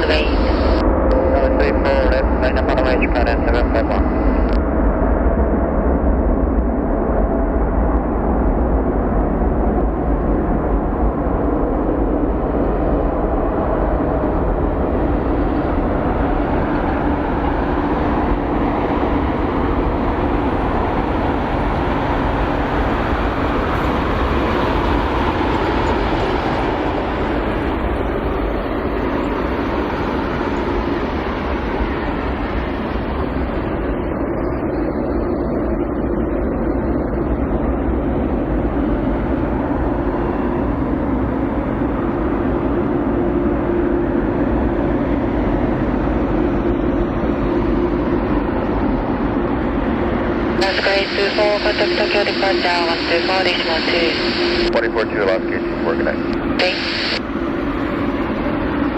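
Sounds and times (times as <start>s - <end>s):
jet engines rumbling at takeoff: 0.0s - 58.9s.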